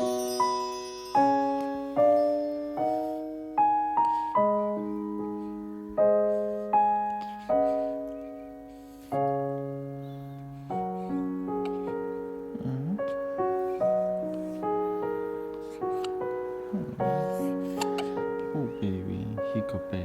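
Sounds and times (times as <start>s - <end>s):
slow gentle piano music: 0.0s - 20.0s.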